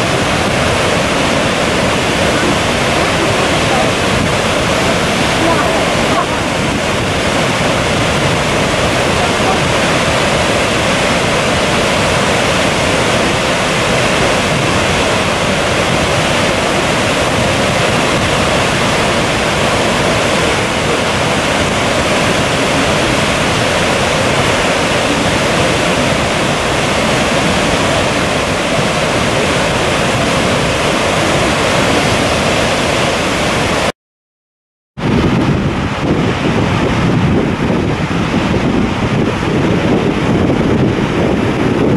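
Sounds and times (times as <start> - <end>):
waterfall roaring: 0.0 - 33.9, 35.0 - 41.9.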